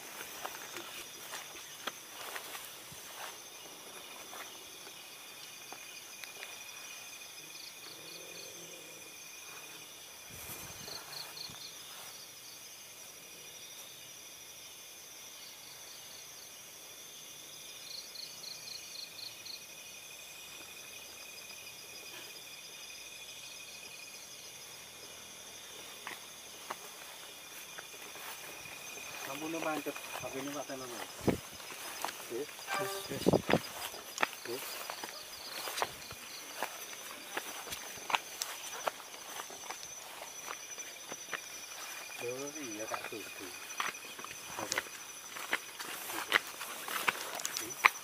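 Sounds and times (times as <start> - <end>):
insects trilling: 0.0 - 48.0
rapid cricket chirps: 0.0 - 48.0.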